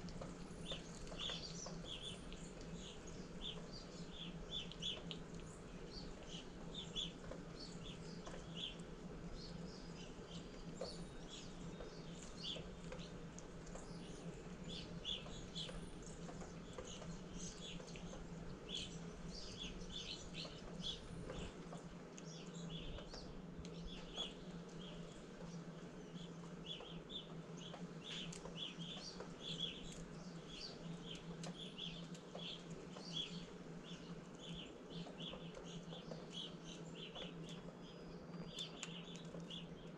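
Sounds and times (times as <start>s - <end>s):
faint steady low hum: 0.0s - 39.9s
wild birds chirping: 0.0s - 39.9s.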